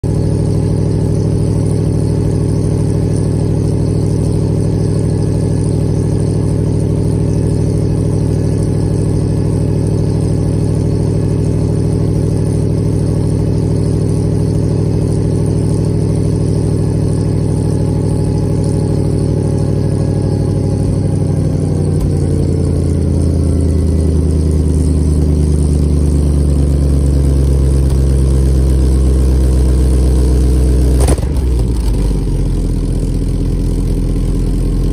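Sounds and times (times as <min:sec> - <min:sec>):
engine running at exhaust: 0:00.0 - 0:34.9.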